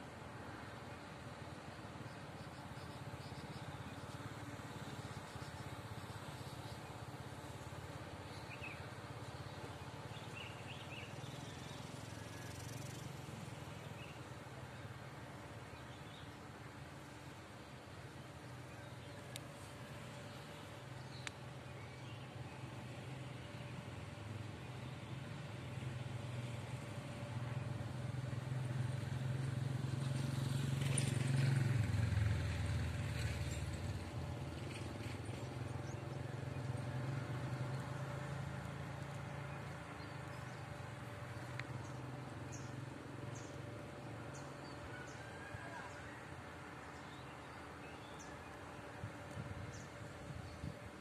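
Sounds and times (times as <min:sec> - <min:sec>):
diesel train engine hum: 0:00.0 - 0:51.0.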